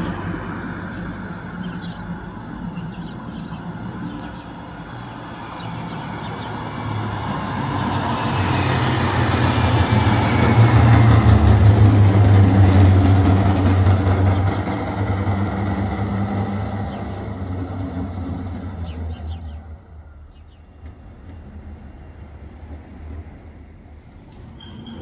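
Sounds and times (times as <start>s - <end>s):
tram wheels on rails: 0.0s - 25.0s.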